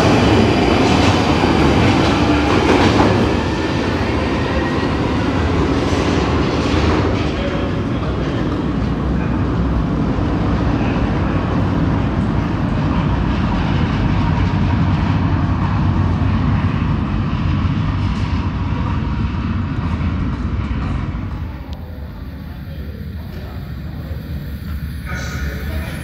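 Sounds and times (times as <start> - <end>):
train rumbling through tunnel: 0.0 - 26.0.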